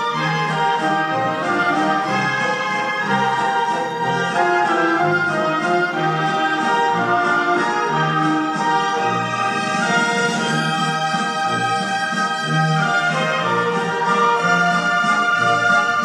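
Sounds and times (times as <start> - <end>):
orchestral music: 0.0 - 16.0.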